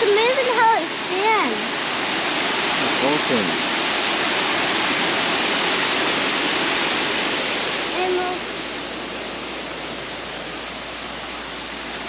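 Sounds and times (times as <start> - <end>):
river running over rocks: 0.0 - 12.0.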